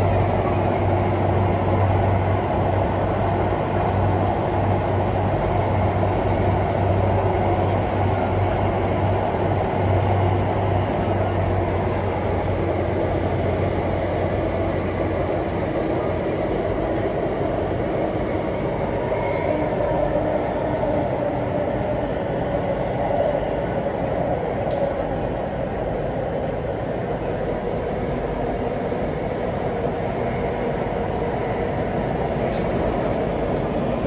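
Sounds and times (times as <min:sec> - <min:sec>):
train wheels and motors rumbling: 0:00.0 - 0:34.0.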